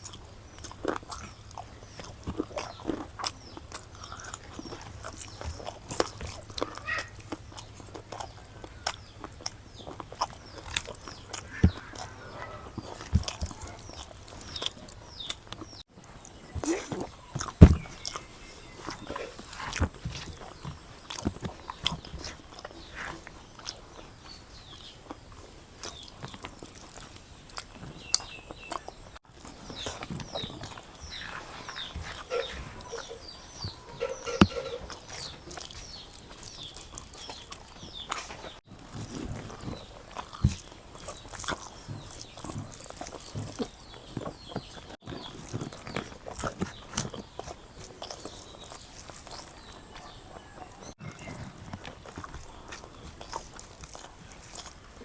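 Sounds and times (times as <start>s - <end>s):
food crunch: 0.0s - 55.0s
person chewing with mouth clicks: 0.0s - 55.0s.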